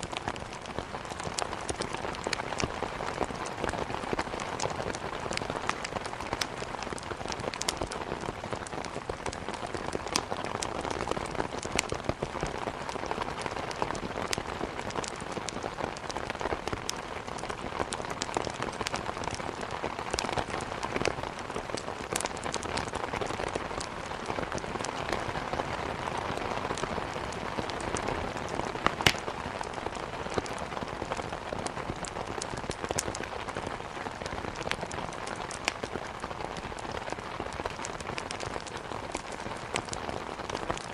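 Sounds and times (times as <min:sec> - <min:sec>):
fire popping: 0:00.0 - 0:25.7, 0:26.7 - 0:40.9
heavy rain: 0:00.0 - 0:40.9
wood fire crackling: 0:00.0 - 0:40.9.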